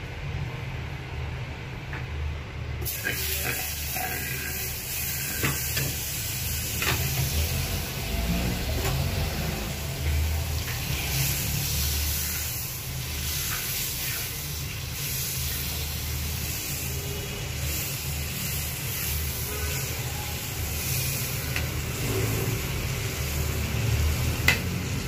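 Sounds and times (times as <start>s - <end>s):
butter sizzling in a wok: 2.8s - 25.0s.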